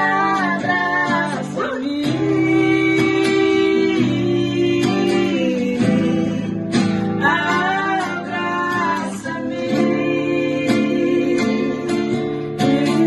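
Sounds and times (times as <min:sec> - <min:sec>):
acoustic guitar strumming chords: 0:00.0 - 0:13.0
woman singing: 0:00.0 - 0:13.0.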